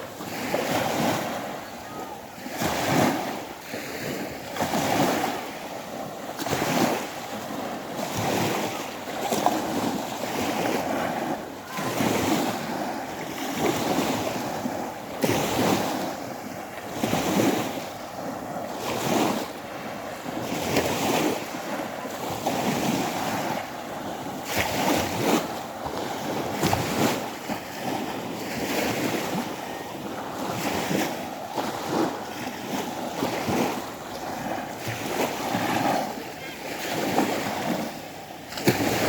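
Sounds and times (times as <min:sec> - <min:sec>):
small waves washing onto shore: 0:00.0 - 0:39.0.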